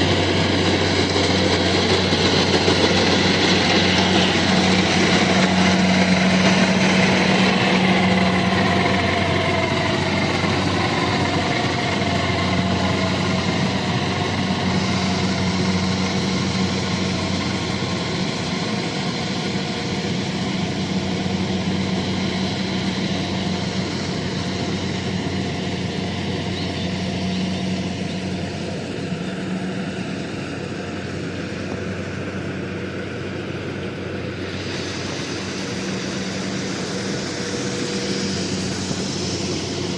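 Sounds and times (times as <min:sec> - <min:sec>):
harvester engine humming: 0:00.0 - 0:39.9.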